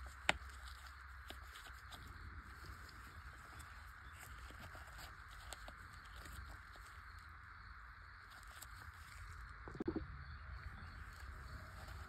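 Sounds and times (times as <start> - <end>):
soft ticks and rubbing of rubber tire: 0.0 - 9.8, 10.6 - 12.0.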